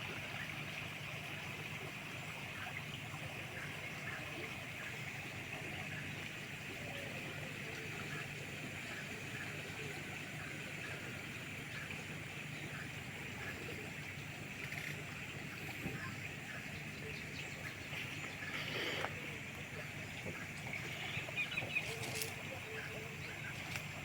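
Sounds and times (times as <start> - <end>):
faint bird calls: 3.4 - 24.0.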